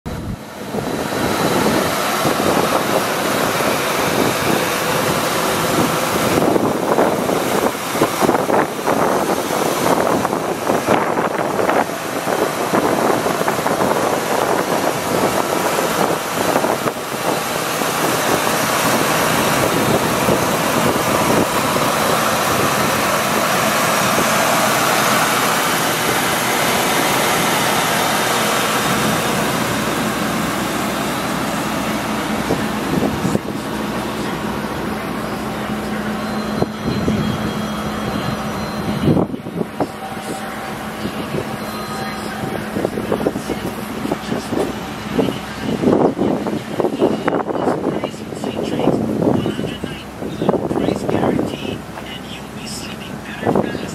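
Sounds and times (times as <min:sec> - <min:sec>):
truck running from inside cab: 0:00.0 - 0:53.9.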